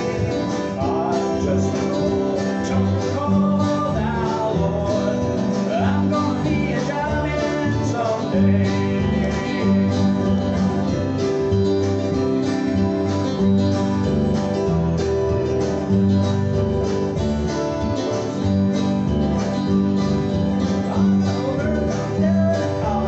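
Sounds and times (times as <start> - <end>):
acoustic guitars strumming: 0.0 - 23.0
bass guitar: 0.0 - 23.0.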